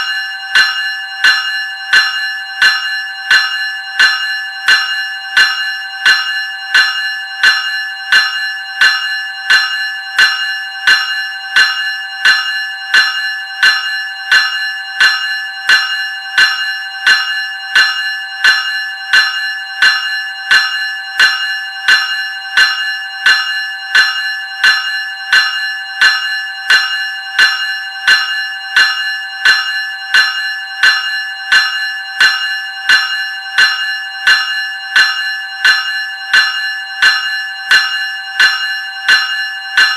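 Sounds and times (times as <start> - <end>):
electric bell ringing: 0.0 - 39.9.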